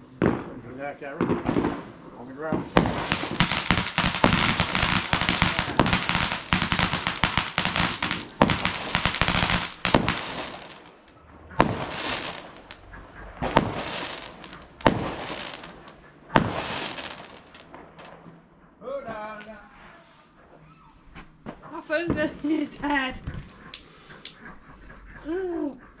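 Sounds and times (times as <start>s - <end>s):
fireworks bangs and crackles: 0.0s - 18.5s, 21.4s - 24.5s.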